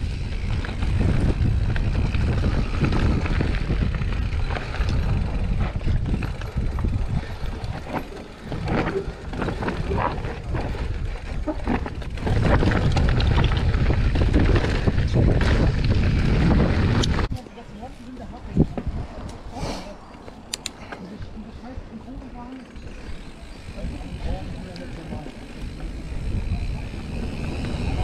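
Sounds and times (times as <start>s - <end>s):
bike clacking and rattling: 0.0s - 17.3s, 22.3s - 28.0s
bike tyres rumbling on rocky trail: 0.0s - 19.2s, 21.4s - 28.0s
wind buffeting microphone: 0.0s - 28.0s.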